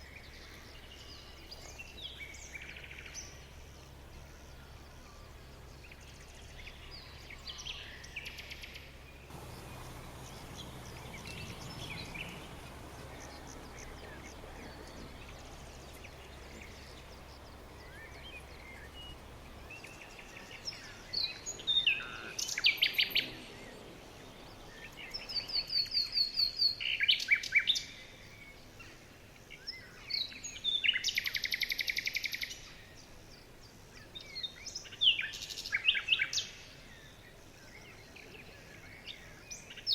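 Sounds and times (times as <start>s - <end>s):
background hiss: 0.0s - 39.9s
small birds singing: 0.0s - 39.9s.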